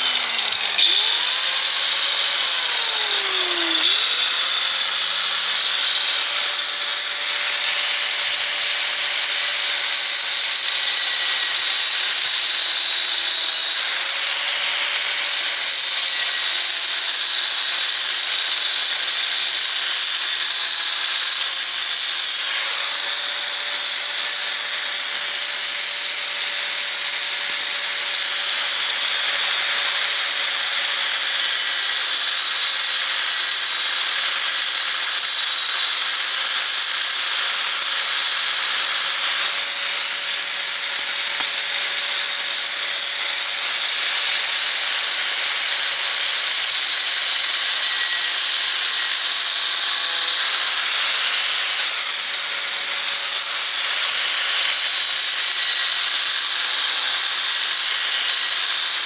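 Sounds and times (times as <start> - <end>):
angle grinder cutting brick: 0.0 - 59.0.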